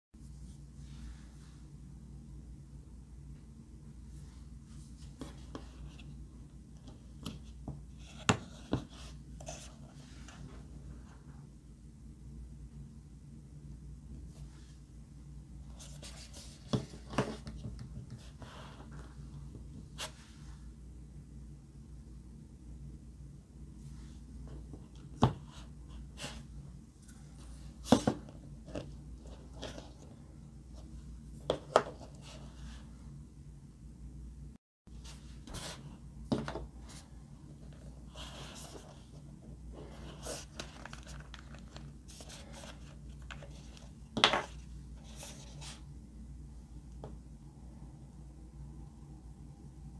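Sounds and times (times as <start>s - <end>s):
low steady hum: 0.2s - 49.9s.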